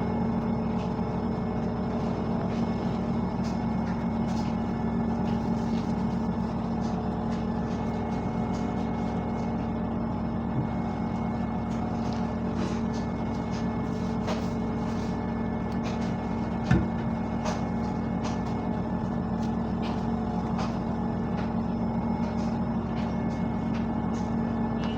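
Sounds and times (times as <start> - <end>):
appliance motor humming: 0.0 - 24.9.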